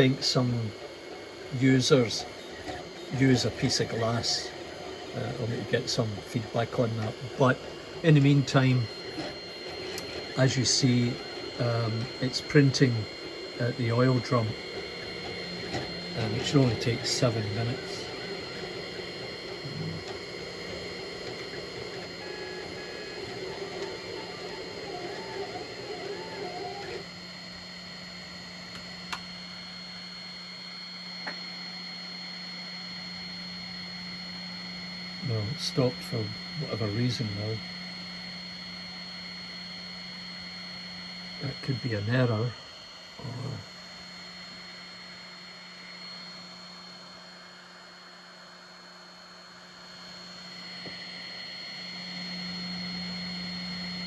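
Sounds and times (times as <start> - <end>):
printer fans humming: 0.0 - 54.0
stepper motors whining: 0.0 - 54.0.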